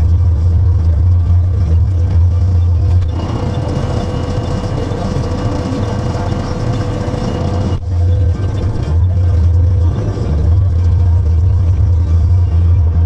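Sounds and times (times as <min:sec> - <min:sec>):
machinery noise with whine: 0:00.0 - 0:13.0
tractor engine running: 0:00.0 - 0:13.0.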